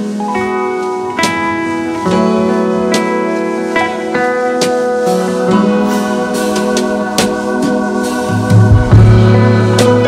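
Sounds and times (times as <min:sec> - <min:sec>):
instrumental music sustained chords: 0:00.0 - 0:10.0.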